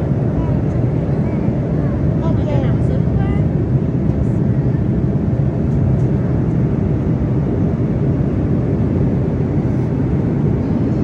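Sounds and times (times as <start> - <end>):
airliner cabin drone: 0.0 - 11.0.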